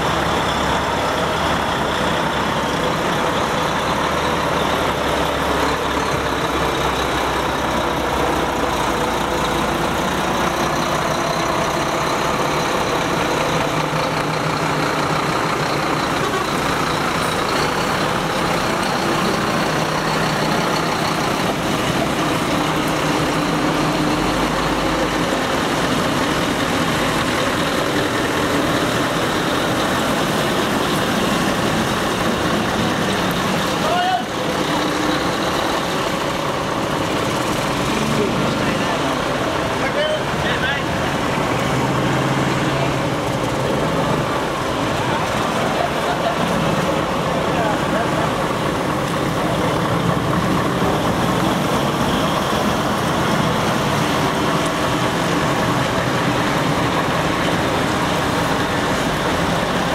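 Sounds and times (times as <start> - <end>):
truck diesel engines rumbling: 0.0 - 59.9.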